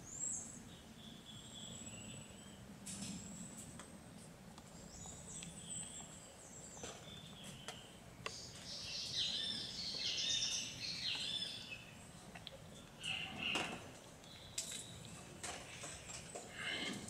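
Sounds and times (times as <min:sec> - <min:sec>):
birds chirping and trilling: 0:00.0 - 0:03.7, 0:04.7 - 0:17.0.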